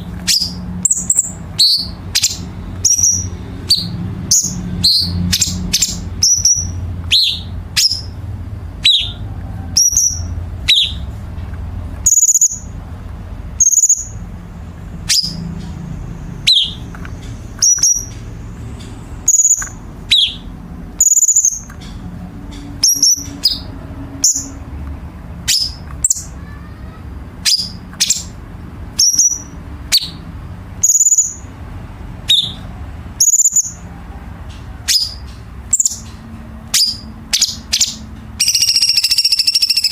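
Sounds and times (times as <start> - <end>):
sharp piercing bird calls: 0.0 - 11.2, 12.0 - 12.8, 13.5 - 14.3, 15.0 - 24.6, 25.4 - 31.6, 32.2 - 33.9, 34.5 - 39.9.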